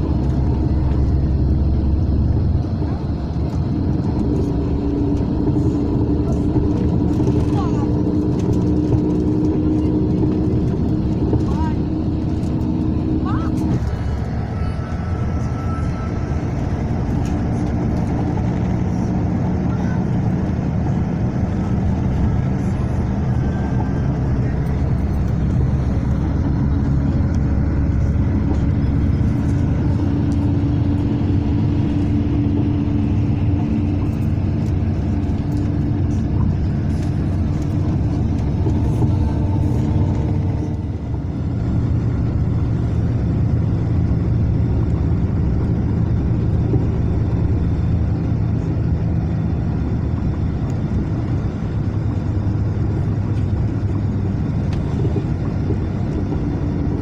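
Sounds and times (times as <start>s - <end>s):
coach engine and road noise: 0.0s - 57.0s.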